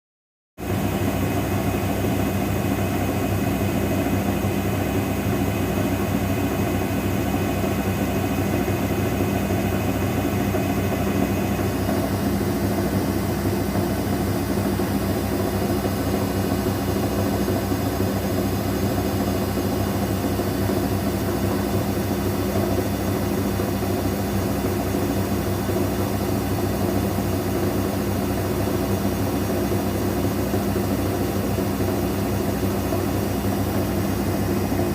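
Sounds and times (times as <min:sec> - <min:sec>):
washing machine spinning: 0:00.6 - 0:34.9.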